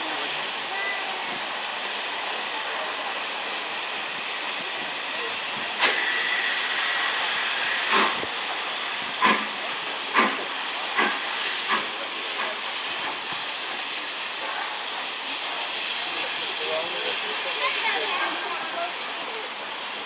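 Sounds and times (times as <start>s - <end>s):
steam locomotive exhaust chuffs: 0.0s - 17.6s
steady hiss of steam: 0.0s - 20.0s.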